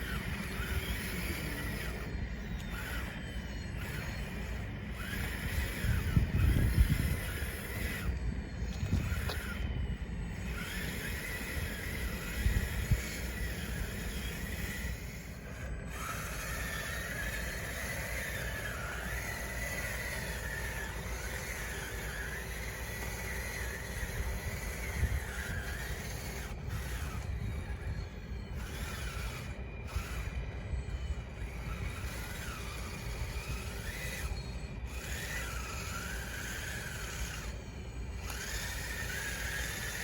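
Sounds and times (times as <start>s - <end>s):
electric motors whining: 0.0s - 40.0s.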